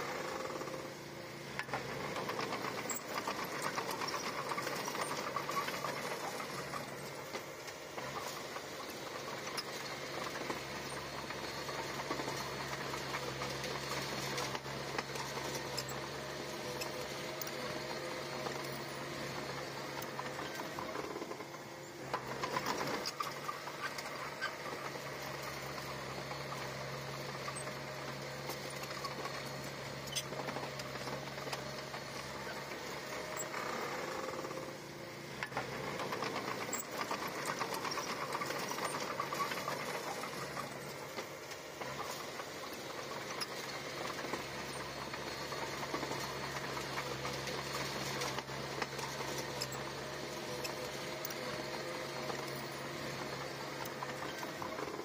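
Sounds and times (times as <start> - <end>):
bulldozer diesel engine clattering: 0.0 - 55.0.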